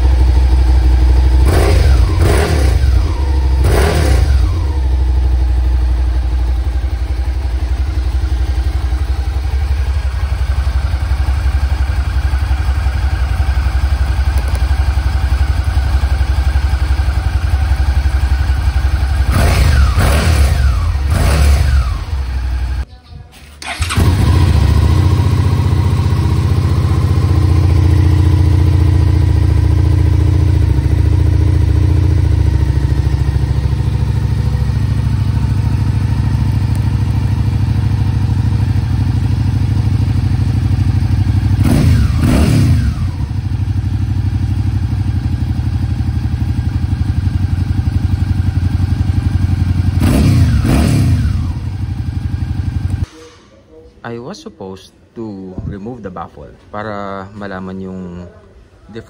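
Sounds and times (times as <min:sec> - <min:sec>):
motorcycle engine starting and idling: 0:00.0 - 0:53.9
motorcycle throttle blips: 0:00.0 - 0:53.9.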